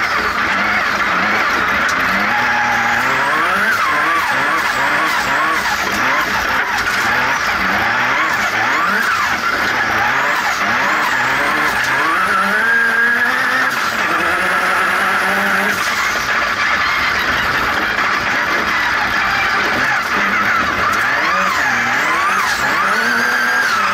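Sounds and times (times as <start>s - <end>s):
turbocharged engine revving: 0.0s - 23.9s.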